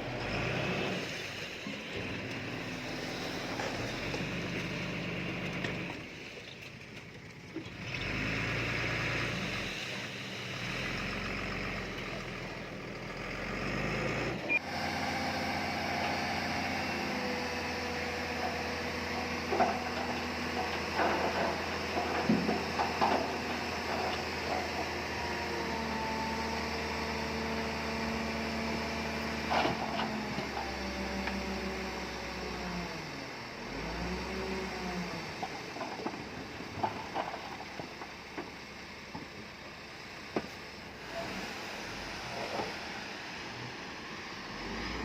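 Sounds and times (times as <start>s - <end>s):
heavy machinery diesel engines: 0.0s - 45.0s.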